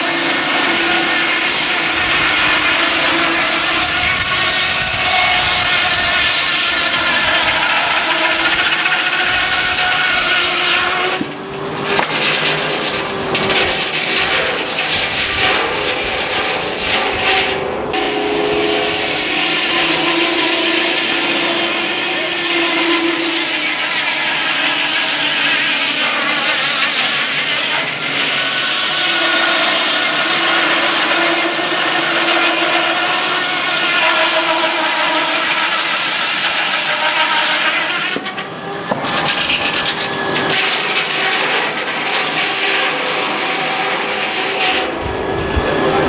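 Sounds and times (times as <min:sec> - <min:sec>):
sawmill saw cutting log: 0:00.0 - 0:46.0.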